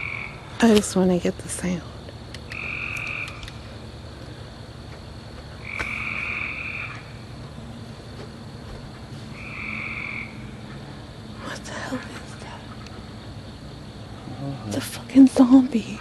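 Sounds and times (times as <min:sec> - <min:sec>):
night-time background noise: 0:00.0 - 0:16.0.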